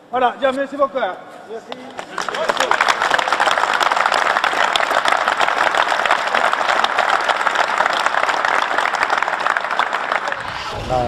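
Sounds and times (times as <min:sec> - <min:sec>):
group applauding: 0:01.8 - 0:10.8.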